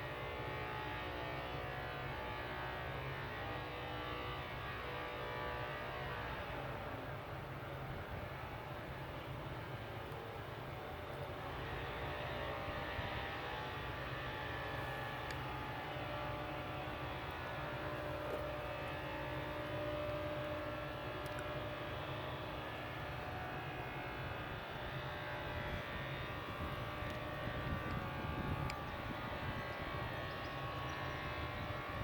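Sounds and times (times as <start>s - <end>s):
distant engines droning: 0.0s - 32.0s.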